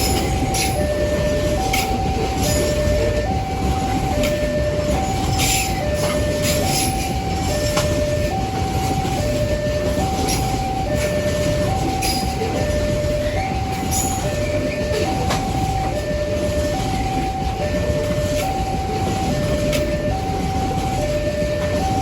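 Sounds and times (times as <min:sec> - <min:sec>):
level crossing alarm: 0:00.0 - 0:22.0
train rumbling past: 0:00.0 - 0:22.0
wagons clacking: 0:00.0 - 0:22.0.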